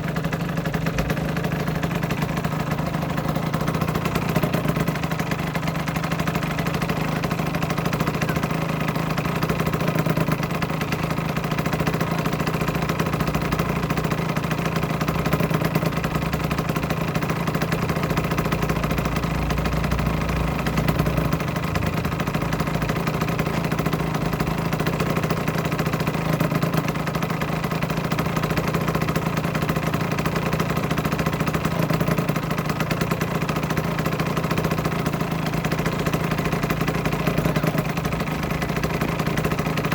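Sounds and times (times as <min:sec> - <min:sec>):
two-stroke motorcycle engine idling: 0:00.0 - 0:39.9.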